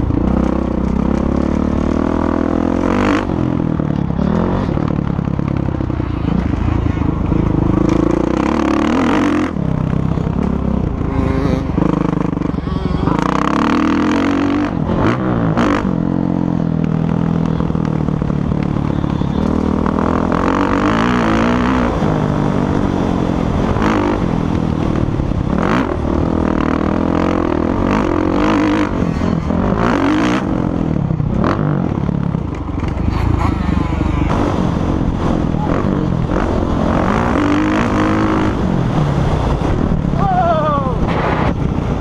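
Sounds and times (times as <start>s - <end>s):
motocross bike engines revving: 0.0s - 42.0s.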